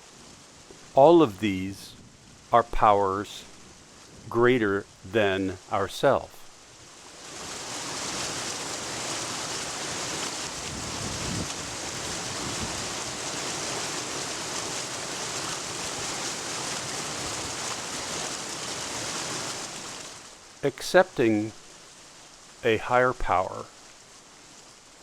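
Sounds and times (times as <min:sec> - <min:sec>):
water flowing and falling: 0:00.0 - 0:25.0.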